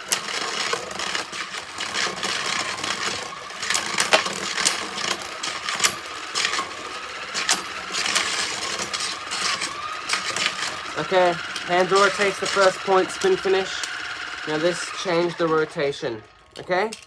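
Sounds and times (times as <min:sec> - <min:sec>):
motor whine: 0:00.0 - 0:16.8
spinning tops whirring: 0:00.0 - 0:17.0
tops clacking together: 0:00.1 - 0:15.5, 0:16.5 - 0:17.0.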